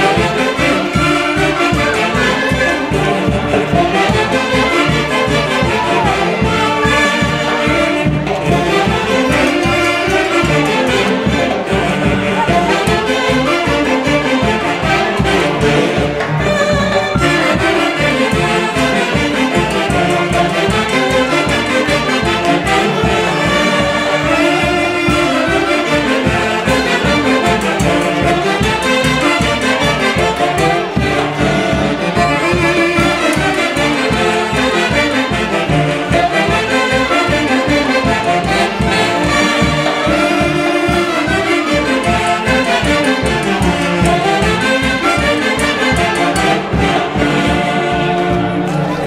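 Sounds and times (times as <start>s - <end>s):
drums beating: 0.0s - 49.0s
saxophone band playing dance tune: 0.0s - 49.0s.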